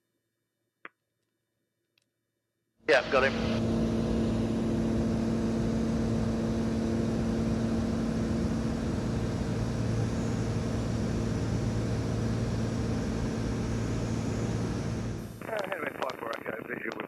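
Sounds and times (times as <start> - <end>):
airplane engine droning: 2.9 - 17.0.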